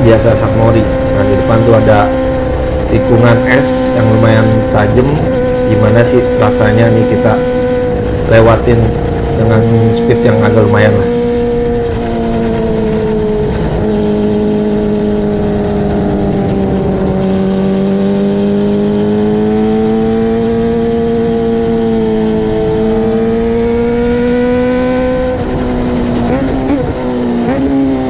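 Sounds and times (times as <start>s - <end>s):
motorcycle engine at high revs: 0.0s - 28.0s.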